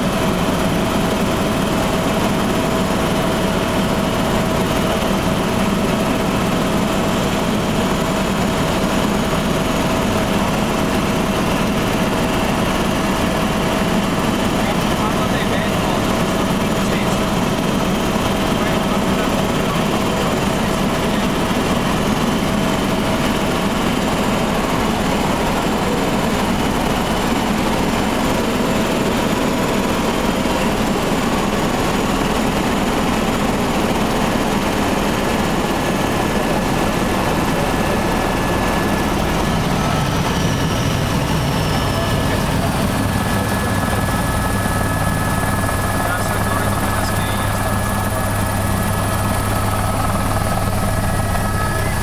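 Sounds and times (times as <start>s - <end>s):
helicopter rotor and engine drone: 0.0s - 52.0s.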